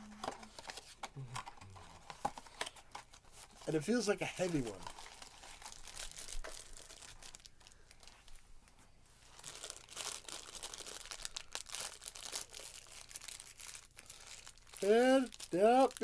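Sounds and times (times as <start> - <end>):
plastic packaging crinkling and tearing: 0.0 - 8.4, 9.2 - 16.0.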